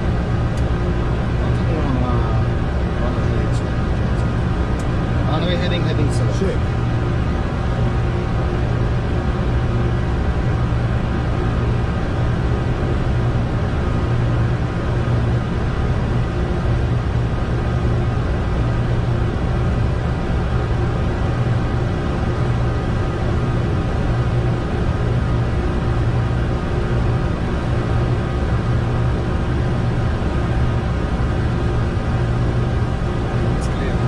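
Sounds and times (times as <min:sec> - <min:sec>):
aircraft airflow and engine drone: 0:00.0 - 0:34.0
faint constant hum: 0:00.0 - 0:34.0.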